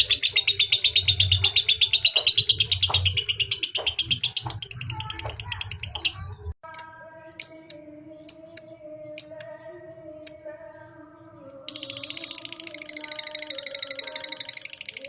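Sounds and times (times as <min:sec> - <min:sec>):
bird chirping and trilling: 0:00.0 - 0:10.4, 0:11.5 - 0:15.0.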